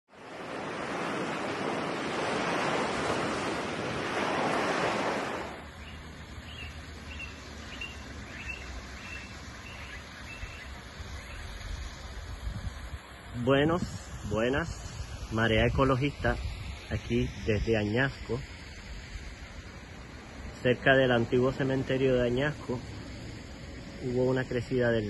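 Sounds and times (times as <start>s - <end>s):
ocean surf washing in: 0.1s - 25.0s.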